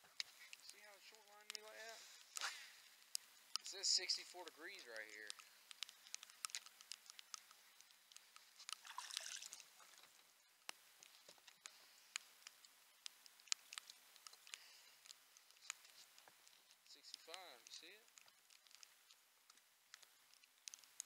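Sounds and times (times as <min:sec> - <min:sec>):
raindrops ticking on camera housing: 0:00.0 - 0:21.0.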